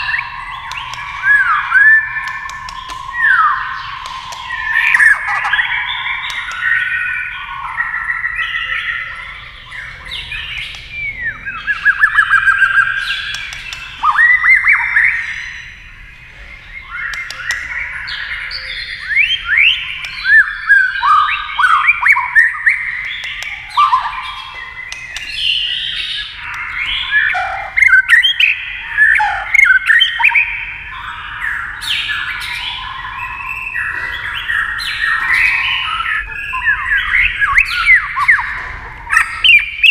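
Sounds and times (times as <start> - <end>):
bird singing whistles and clicks: 0.0 - 39.9.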